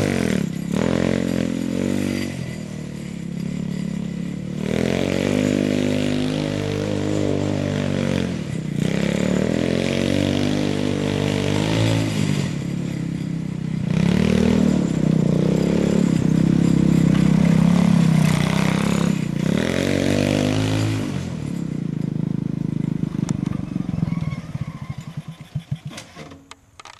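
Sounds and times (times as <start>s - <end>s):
go-kart engine revving: 0.0s - 26.9s.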